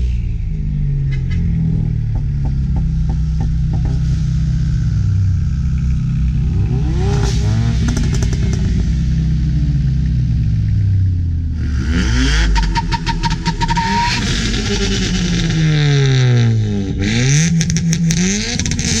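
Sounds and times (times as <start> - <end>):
car exhaust drone and revving: 0.0 - 19.0.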